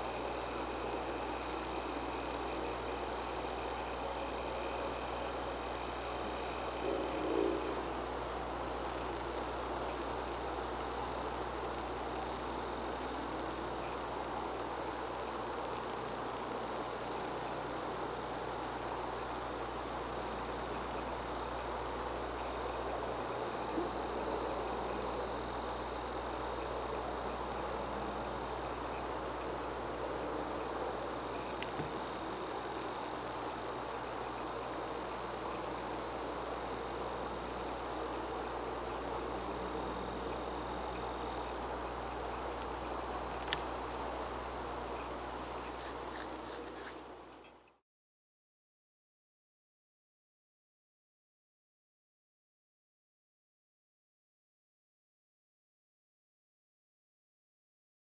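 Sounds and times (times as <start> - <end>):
crickets trilling: 0.0 - 47.8.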